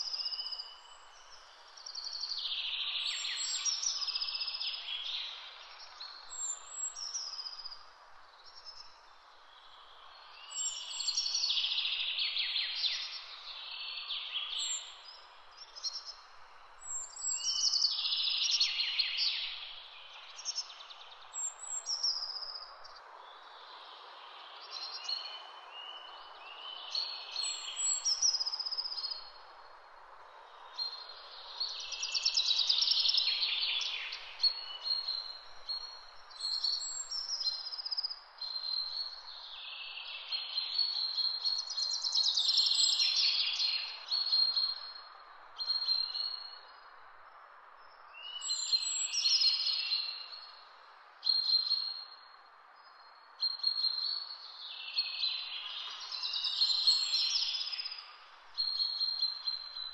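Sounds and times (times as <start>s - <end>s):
faint outdoor hiss: 0.0s - 59.9s
songbirds singing: 0.0s - 59.9s.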